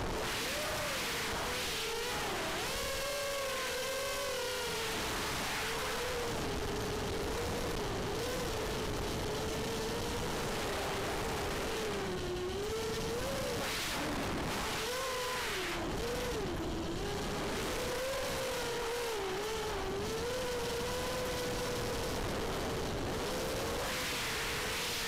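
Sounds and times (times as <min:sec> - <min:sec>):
quadcopter motors buzzing whine: 0:00.0 - 0:25.0.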